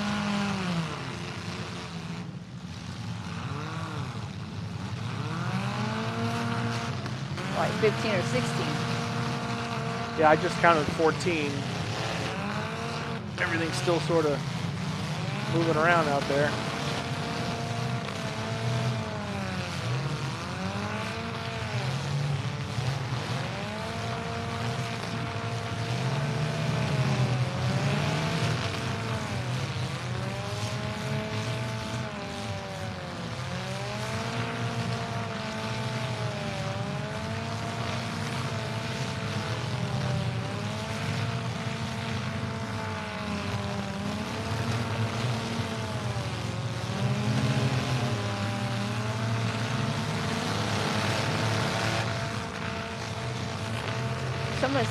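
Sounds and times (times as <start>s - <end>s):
car engine revving hard: 0.0s - 2.2s, 2.8s - 54.9s
low rumble of engines: 0.0s - 54.9s.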